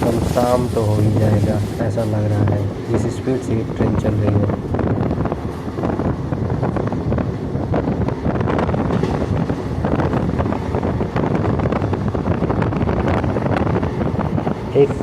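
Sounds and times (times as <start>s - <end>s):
train wheels rumbling on track: 0.0s - 15.0s
wind buffeting microphone: 0.0s - 15.0s.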